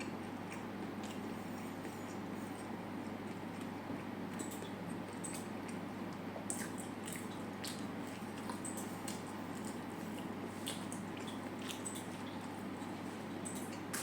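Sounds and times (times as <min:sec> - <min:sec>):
chewing food: 0:00.0 - 0:14.0
steady low hum: 0:00.0 - 0:14.0.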